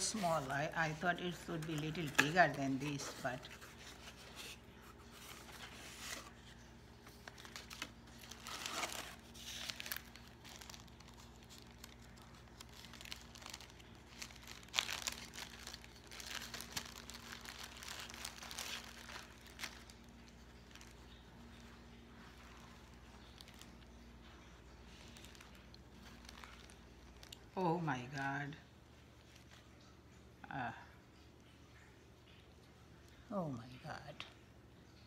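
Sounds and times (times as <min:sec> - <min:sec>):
plastic bag and tissue paper crinkling: 0:00.0 - 0:30.2.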